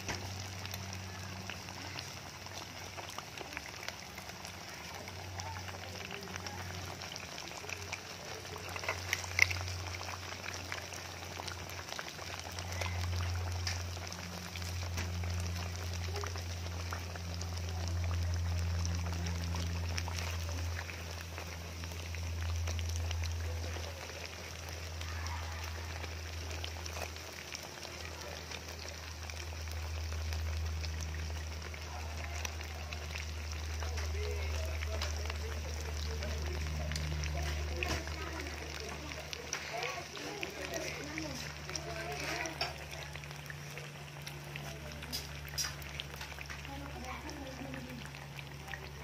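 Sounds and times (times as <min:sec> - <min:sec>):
banana slices deep-frying in oil: 0:00.0 - 0:49.0.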